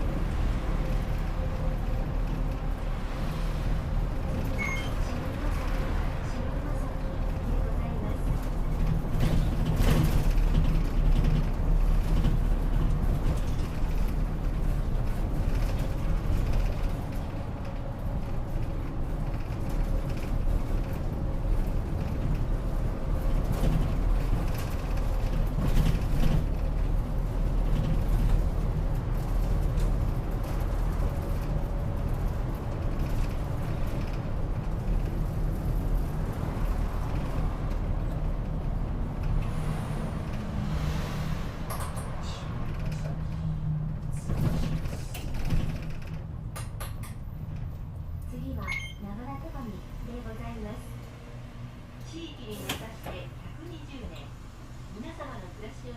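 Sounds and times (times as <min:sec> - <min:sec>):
bus engine running: 0:00.0 - 0:55.9
road noise: 0:00.0 - 0:55.9
bus body clicks and knocks: 0:04.0 - 0:40.7, 0:41.6 - 0:49.0, 0:52.4 - 0:53.3.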